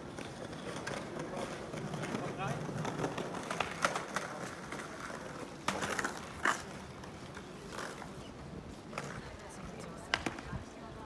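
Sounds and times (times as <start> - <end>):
low street background noise: 0.0 - 11.0.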